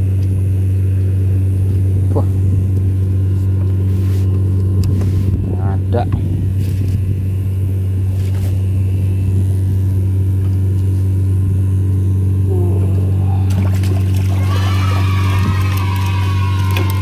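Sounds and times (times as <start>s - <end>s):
small engine humming steadily: 0.0s - 17.0s.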